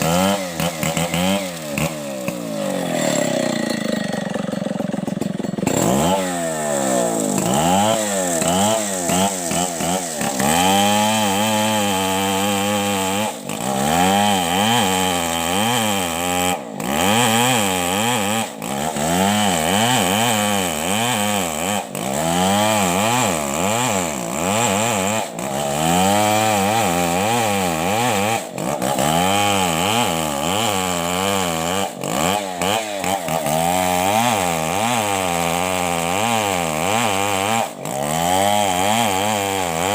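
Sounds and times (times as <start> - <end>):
chainsaw sawing: 0.0 - 39.9.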